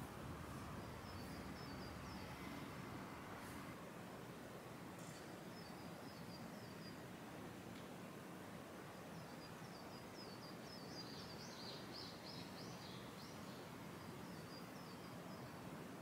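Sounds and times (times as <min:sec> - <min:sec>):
low outdoor background noise: 0:00.0 - 0:16.0.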